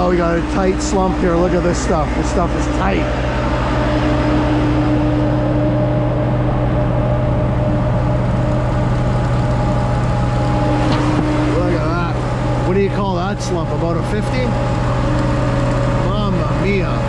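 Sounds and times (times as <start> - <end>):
diesel engines running: 0.0 - 17.0
steady engine tone: 0.0 - 17.0.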